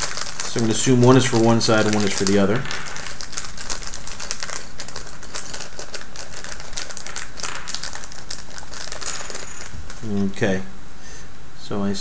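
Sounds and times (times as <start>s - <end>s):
plastic parts clicking and rattling: 0.0s - 10.1s
plastic bag crinkling: 0.0s - 10.3s.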